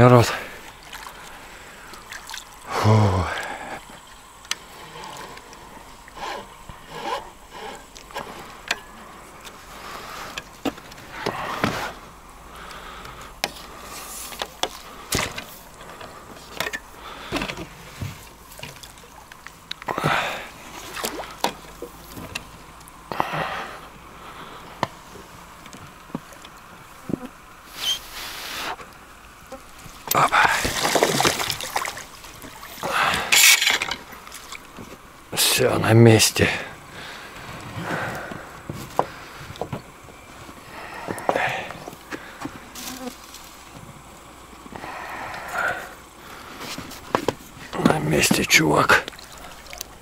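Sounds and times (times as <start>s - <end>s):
water splashing and sloshing: 0.0s - 27.7s, 28.8s - 35.7s, 36.4s - 50.0s.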